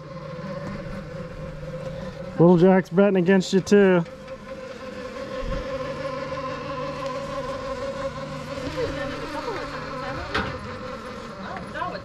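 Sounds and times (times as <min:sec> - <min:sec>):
golf cart motor whining: 0:00.0 - 0:12.0
lower hum: 0:00.0 - 0:12.0.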